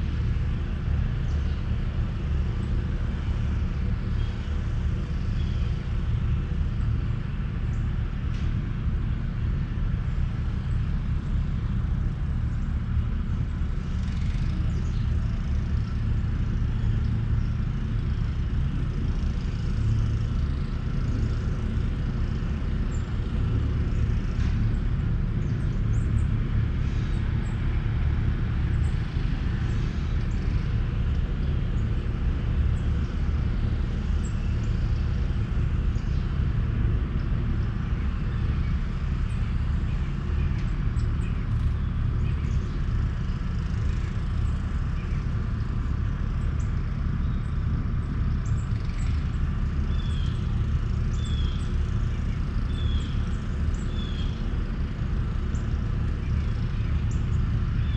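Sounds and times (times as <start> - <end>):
low outdoor rumble: 0.0 - 57.9.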